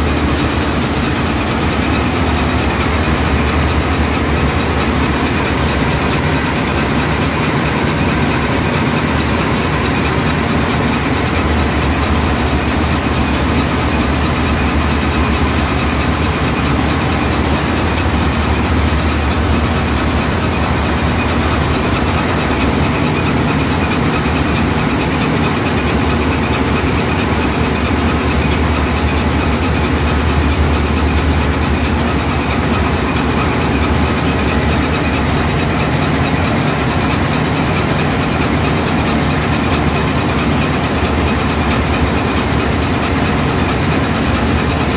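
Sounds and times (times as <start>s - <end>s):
diesel engines droning: 0.0s - 44.9s.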